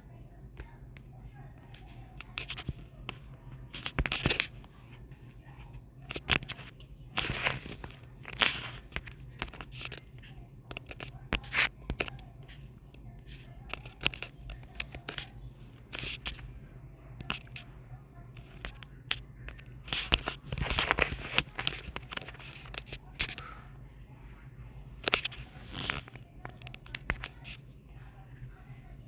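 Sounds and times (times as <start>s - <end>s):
low steady hum: 0.0s - 29.0s
clicks and crackles: 0.6s - 16.5s, 17.1s - 23.6s, 25.0s - 27.7s.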